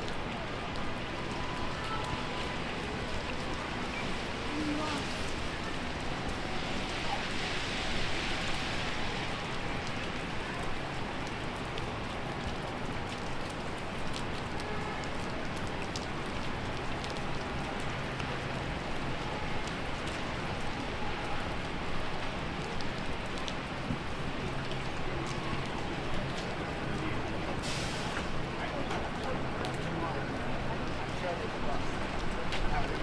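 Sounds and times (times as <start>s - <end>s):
heavy rain falling: 0.0s - 33.0s
raindrops ticking close by: 0.0s - 33.0s.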